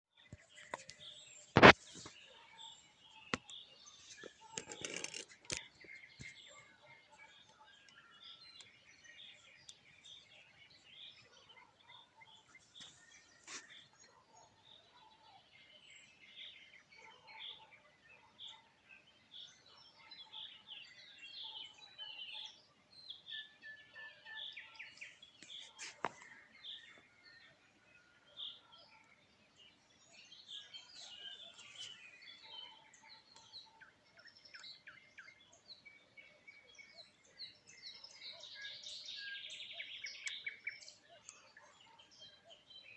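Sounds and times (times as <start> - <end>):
songbirds chirping: 0.1 - 42.9.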